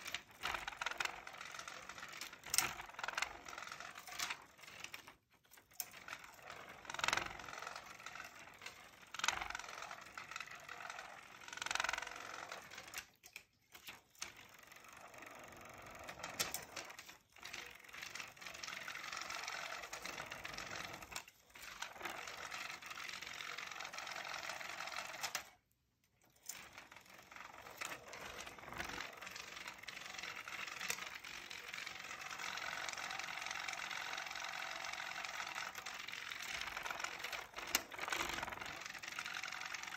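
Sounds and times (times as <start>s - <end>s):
small electric motor running: 0.0s - 13.2s, 13.9s - 25.6s, 26.4s - 39.9s
clicking rattle of whirling toy: 0.0s - 39.9s.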